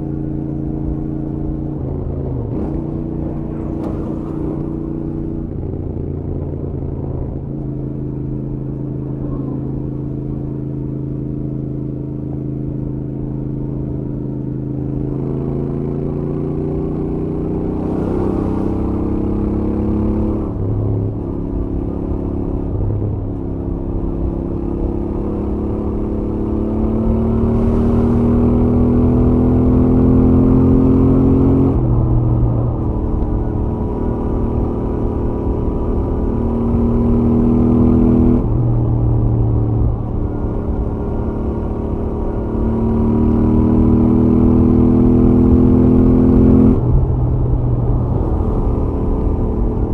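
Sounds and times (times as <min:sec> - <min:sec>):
motorcycle engine at speed: 0:00.0 - 0:49.9.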